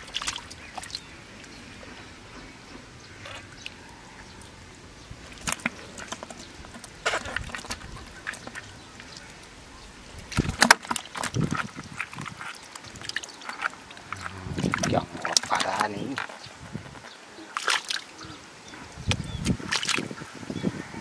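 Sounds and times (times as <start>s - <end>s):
squelching in muddy water: 0.0s - 21.0s.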